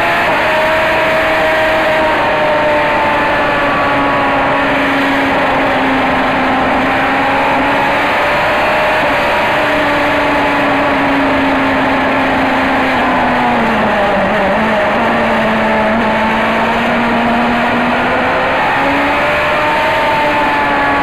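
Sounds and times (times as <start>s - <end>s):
race car engine at high revs: 0.0s - 21.0s
road and wind noise: 0.0s - 21.0s.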